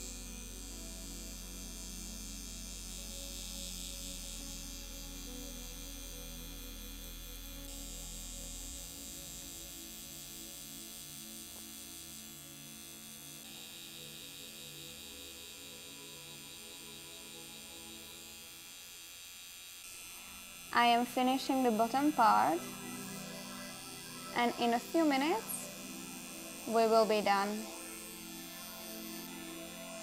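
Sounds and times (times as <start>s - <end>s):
tattoo pen humming: 0.0s - 30.0s.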